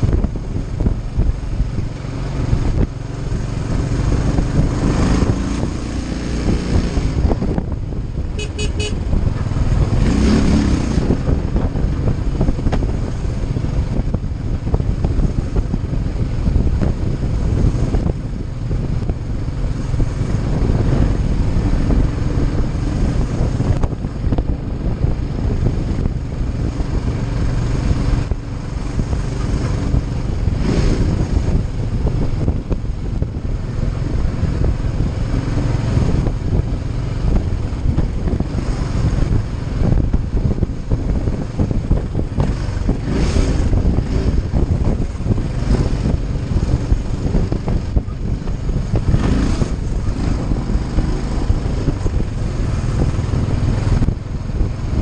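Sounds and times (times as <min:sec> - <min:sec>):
motorcycle engine running: 0:00.0 - 0:55.0
road and traffic noise: 0:00.0 - 0:55.0
wind rush on microphone: 0:00.0 - 0:55.0.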